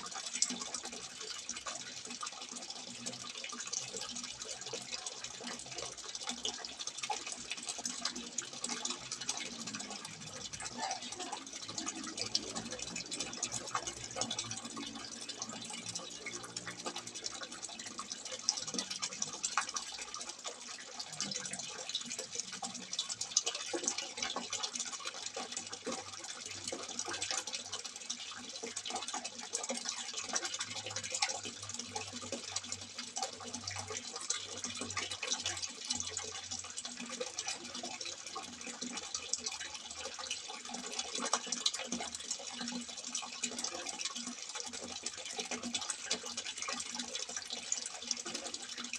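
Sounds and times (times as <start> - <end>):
water pouring from spout: 0.0 - 48.9
water splashing and dripping: 0.0 - 48.9.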